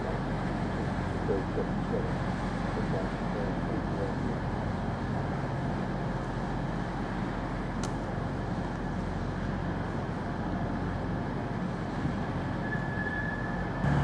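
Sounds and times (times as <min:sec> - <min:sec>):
diesel locomotive engine droning: 0:00.0 - 0:14.0.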